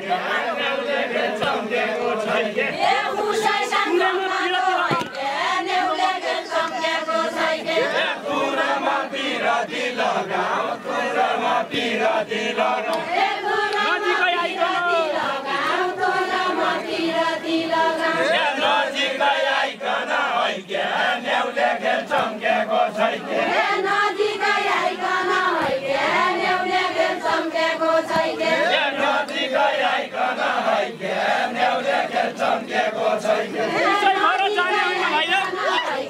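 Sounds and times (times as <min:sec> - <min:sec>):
group chanting in unison: 0:00.0 - 0:36.0.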